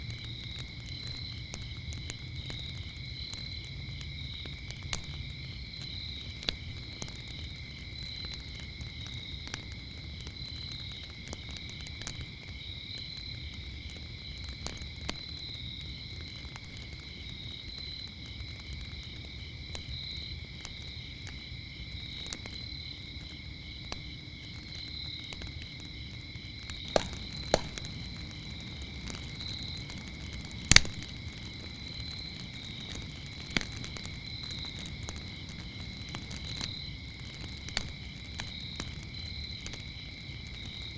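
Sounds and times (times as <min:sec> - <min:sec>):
crickets chirping: 0:00.0 - 0:40.9
wood fire crackling and popping: 0:00.0 - 0:40.9.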